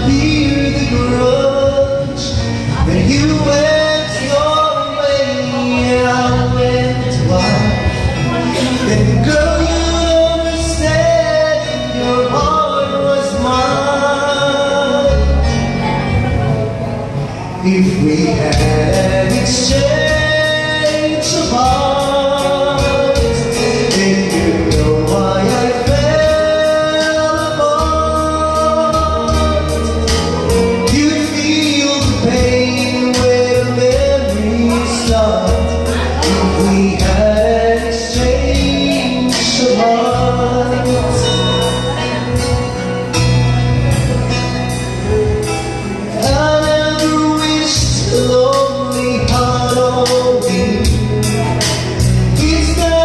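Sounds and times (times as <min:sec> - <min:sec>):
backing track through speakers: 0:00.0 - 0:53.0
man singing into microphone: 0:00.0 - 0:53.0.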